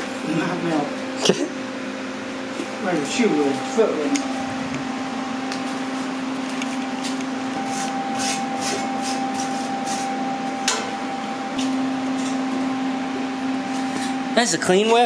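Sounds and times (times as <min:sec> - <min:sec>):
low hum: 0:02.6 - 0:14.8.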